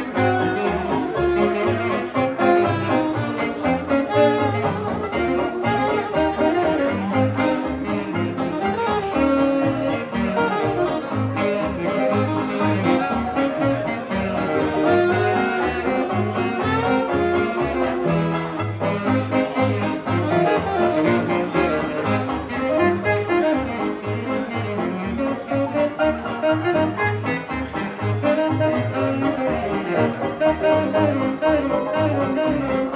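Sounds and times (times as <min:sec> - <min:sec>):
banjo or guitar strumming: 0:00.0 - 0:32.9
saxophone and brass melody: 0:00.0 - 0:32.9.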